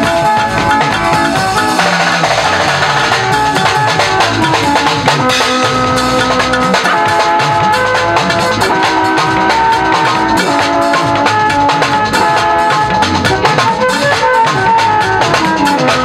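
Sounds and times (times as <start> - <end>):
drum kit beat: 0.0 - 16.0
electric guitars: 0.0 - 16.0
keyboard chords: 0.0 - 16.0.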